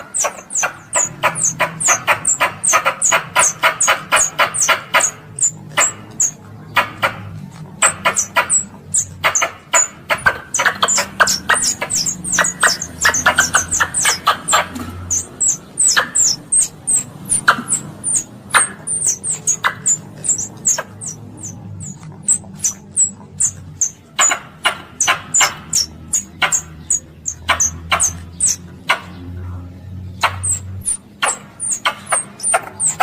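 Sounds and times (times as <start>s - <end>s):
squirrel chirping: 0.0s - 33.0s.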